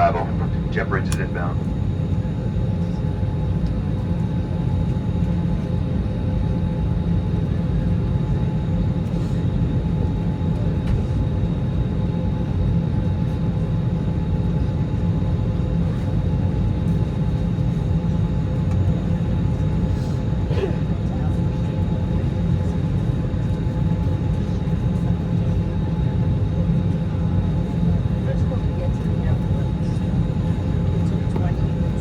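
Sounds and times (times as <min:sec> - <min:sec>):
airliner cabin drone: 0:00.0 - 0:32.0.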